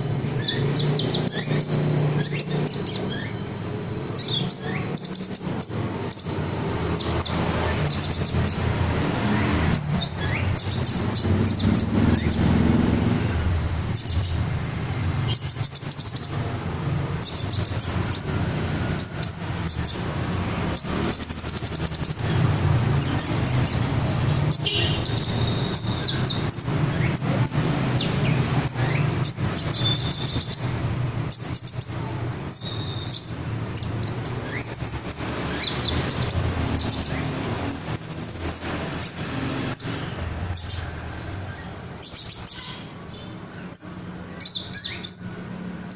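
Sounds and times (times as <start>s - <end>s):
bird chirping and trilling: 0.0s - 45.9s.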